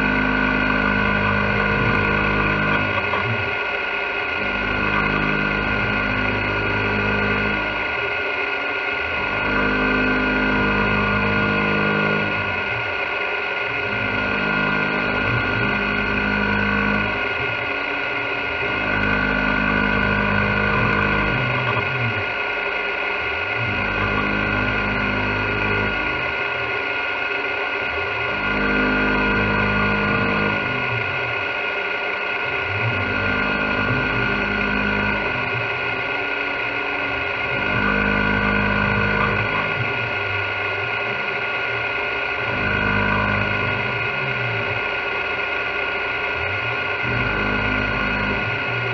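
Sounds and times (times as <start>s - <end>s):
low machine running sound: 0.0s - 48.9s
milling machine spindle whine: 0.0s - 48.9s.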